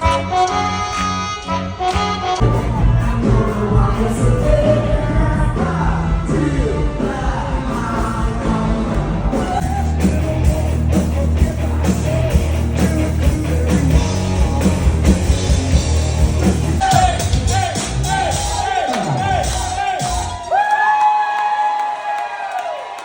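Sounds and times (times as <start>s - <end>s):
rock music with singing: 0.0s - 20.6s.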